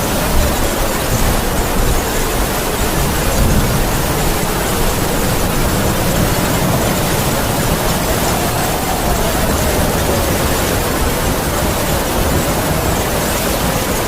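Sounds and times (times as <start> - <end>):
heavy rain: 0.0 - 14.0
howling wind whistle: 0.0 - 14.0.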